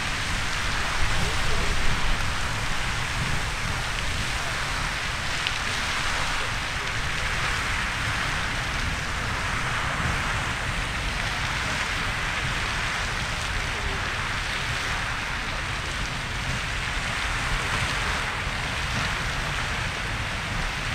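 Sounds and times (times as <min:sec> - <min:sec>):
geyser rushing hiss: 0:00.0 - 0:20.9
low rumble: 0:00.0 - 0:20.9.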